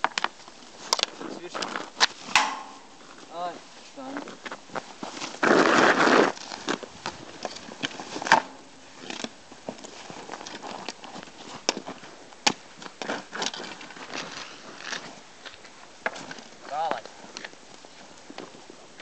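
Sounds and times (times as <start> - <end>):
hockey stick and feet on snow: 0.0 - 19.0.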